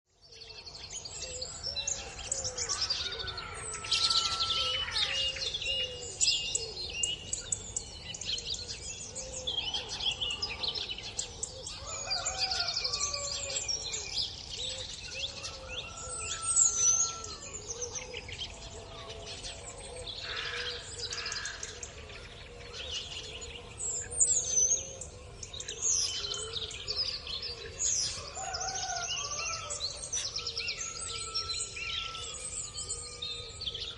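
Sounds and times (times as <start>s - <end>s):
songbirds singing and chirping: 0.0s - 33.9s.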